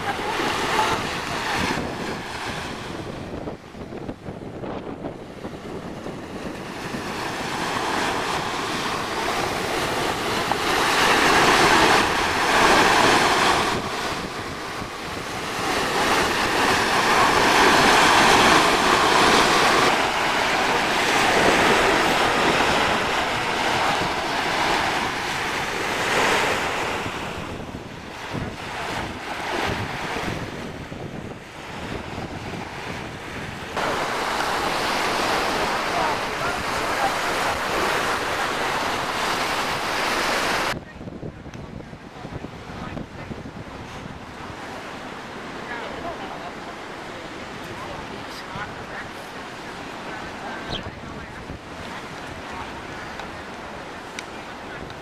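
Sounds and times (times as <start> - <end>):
waves breaking on shore: 0.0 - 55.0
wind on microphone: 0.0 - 55.0.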